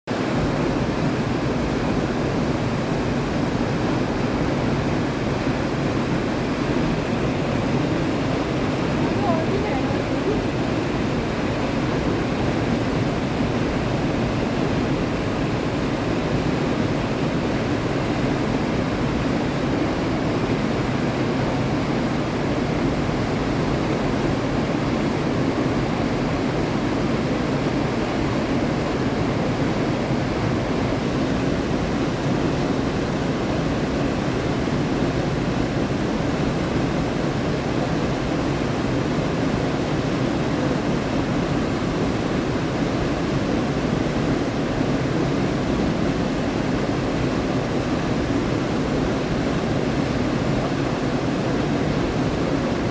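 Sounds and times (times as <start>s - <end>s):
running water rushing: 0.1s - 52.9s.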